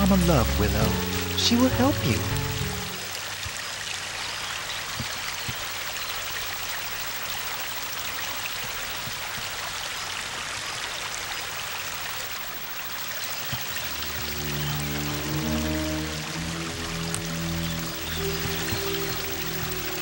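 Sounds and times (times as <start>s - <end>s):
brook running water: 0.0s - 20.0s.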